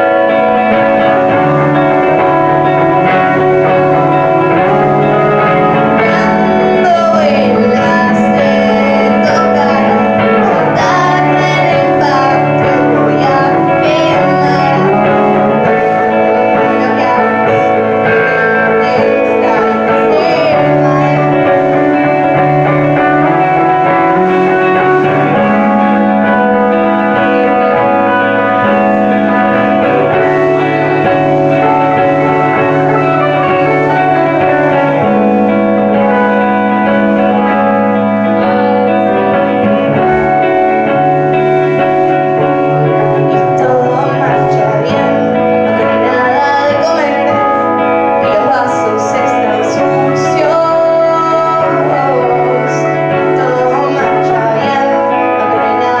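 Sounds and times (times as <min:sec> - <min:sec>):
electric guitar playing: 0:00.0 - 0:56.0
live band music: 0:00.0 - 0:56.0.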